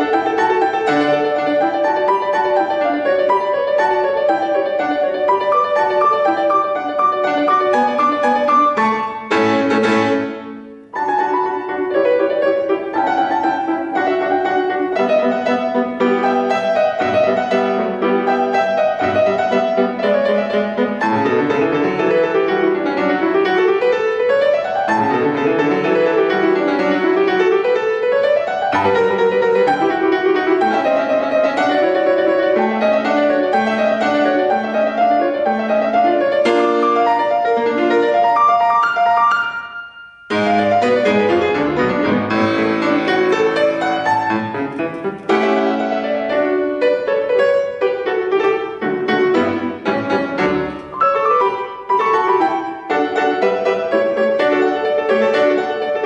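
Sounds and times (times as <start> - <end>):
solo classical piano: 0.0 - 56.0.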